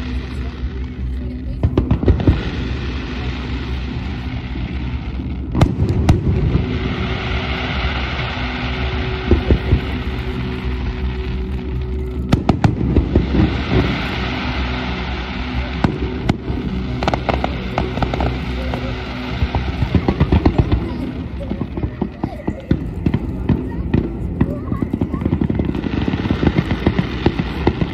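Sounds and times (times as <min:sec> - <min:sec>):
fireworks bursting: 0:00.0 - 0:27.9
fireworks crackling: 0:00.0 - 0:27.9
low background rumble: 0:00.0 - 0:27.9.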